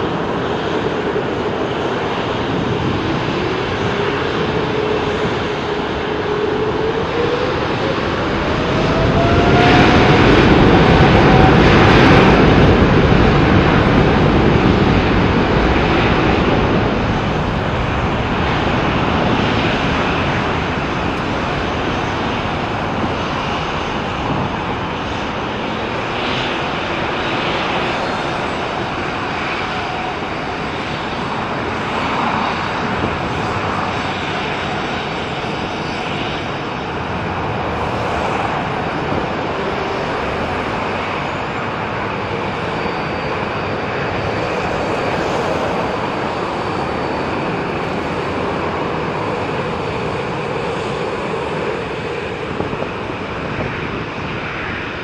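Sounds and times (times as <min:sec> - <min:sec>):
jet engine rush: 0:00.0 - 0:55.0
jet engine whine: 0:00.0 - 0:55.0.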